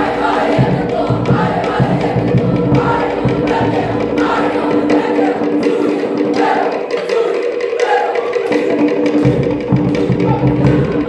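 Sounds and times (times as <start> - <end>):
group singing in chorus: 0.0 - 11.0
percussive beat: 0.0 - 11.0.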